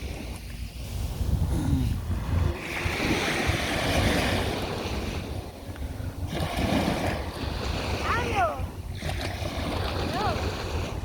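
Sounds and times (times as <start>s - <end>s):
sea waves washing onto beach: 0.0s - 11.0s
wind buffeting microphone: 0.0s - 11.0s.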